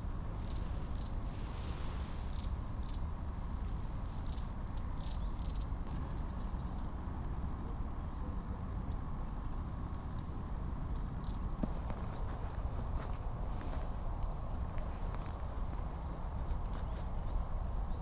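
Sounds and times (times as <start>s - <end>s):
low background rumble: 0.0s - 18.0s
small birds calling: 0.0s - 18.0s.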